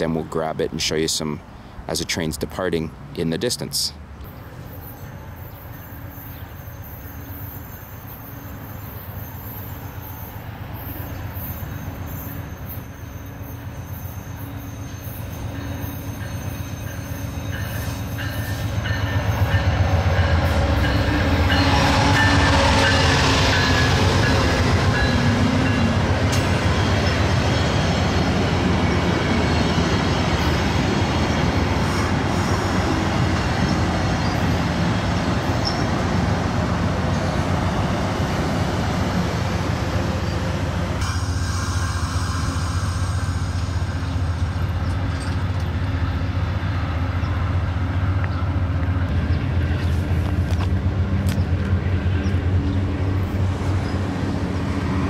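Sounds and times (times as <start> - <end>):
diesel locomotive engine hum: 0.0 - 55.0
train passing with loud rush: 0.0 - 55.0
train cars rolling on rails: 1.9 - 55.0.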